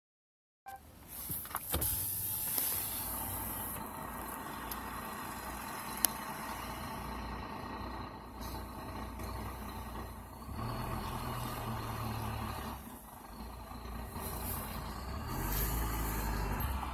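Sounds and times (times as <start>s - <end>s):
vehicle road and engine noise: 0.7s - 16.9s.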